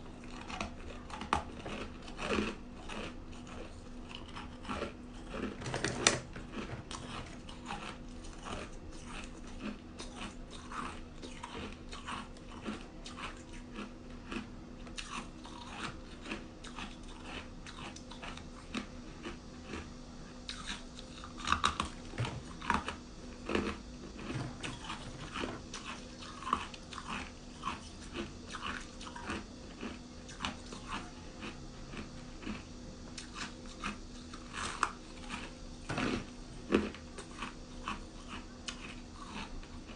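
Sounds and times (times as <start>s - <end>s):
ice crunching while chewed: 0.2s - 39.9s.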